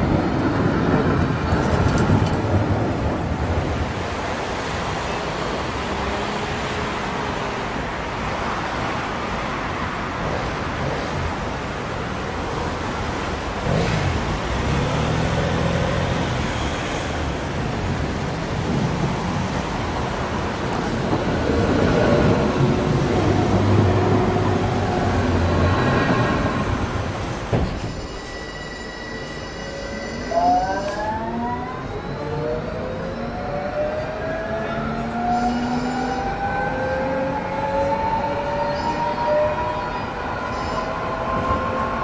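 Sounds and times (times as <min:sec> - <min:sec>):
road traffic noise: 0:00.0 - 0:42.0
tram passing: 0:00.0 - 0:42.0.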